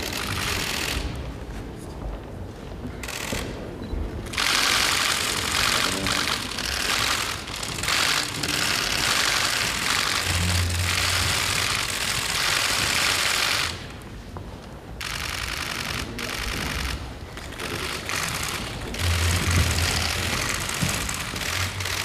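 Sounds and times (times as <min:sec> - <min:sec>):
camera shutters clicking rapidly: 0:00.0 - 0:01.2, 0:03.0 - 0:03.6, 0:04.2 - 0:13.9, 0:15.0 - 0:22.0.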